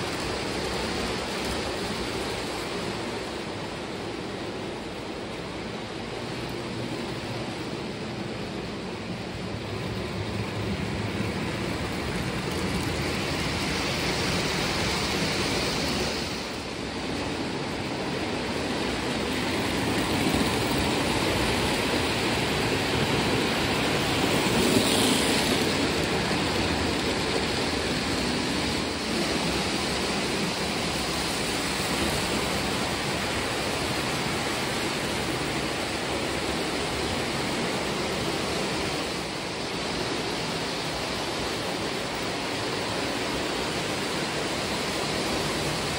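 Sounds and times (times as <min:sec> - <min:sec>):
model trains rumbling on track: 0:00.0 - 0:45.9.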